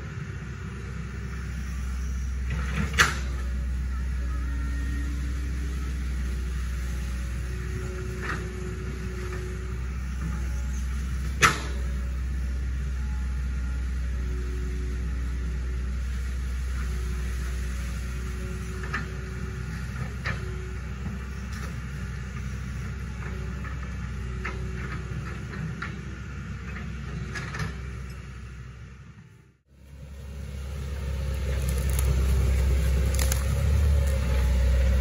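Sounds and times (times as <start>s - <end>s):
excavator diesel engine rumbling: 0.0s - 35.0s.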